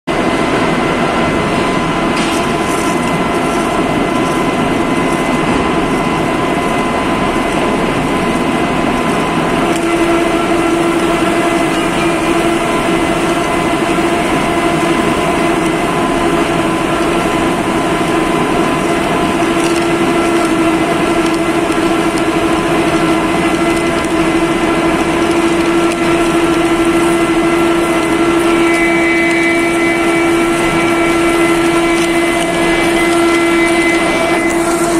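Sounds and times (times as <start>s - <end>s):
low machine hum: 0.1s - 34.9s
ring rolling machine drone: 0.1s - 34.9s.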